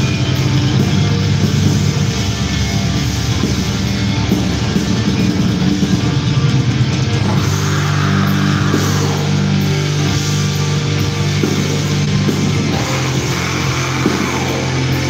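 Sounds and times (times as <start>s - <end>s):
live metal band playing: 0.0s - 15.0s.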